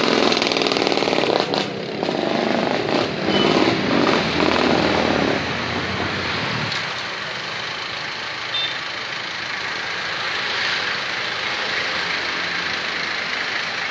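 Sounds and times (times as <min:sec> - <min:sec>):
engine and traffic noise: 0:00.0 - 0:13.9.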